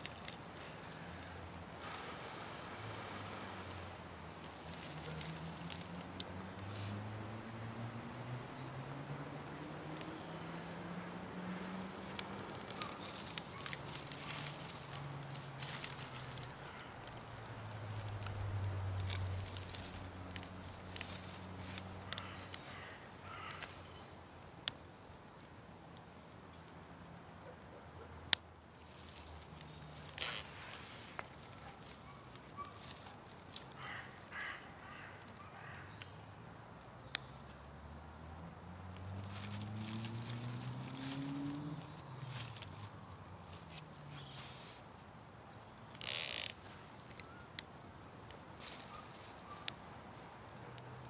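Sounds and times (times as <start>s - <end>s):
rustling of tinder: 0.0s - 7.0s, 9.4s - 23.8s, 28.7s - 50.6s.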